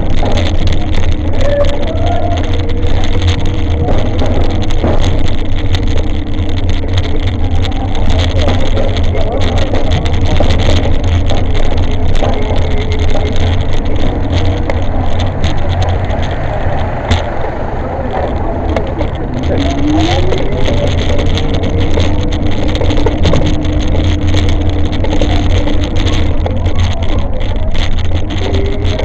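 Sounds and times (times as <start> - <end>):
bike riding rumble: 0.0 - 29.0
rattles and clicks: 0.0 - 29.0.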